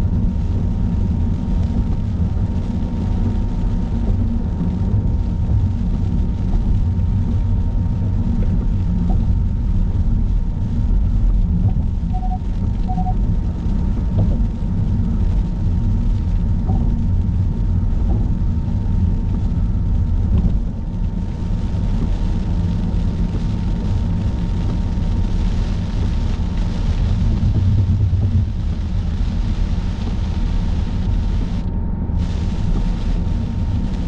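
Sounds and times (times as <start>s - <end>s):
car road noise rumble: 0.0s - 34.0s.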